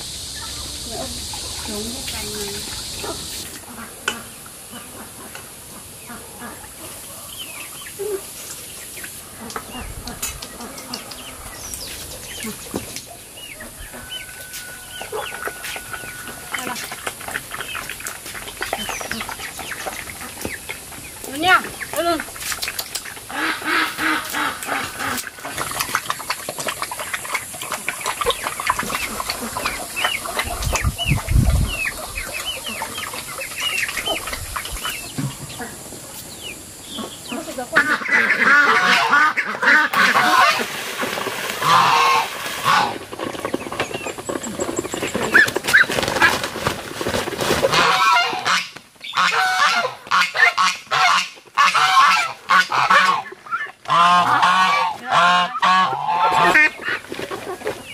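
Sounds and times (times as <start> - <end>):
ducks quacking: 0.0 - 7.2, 9.1 - 12.8, 13.4 - 22.3, 23.0 - 35.8, 36.8 - 40.9, 41.6 - 43.1, 47.6 - 57.9.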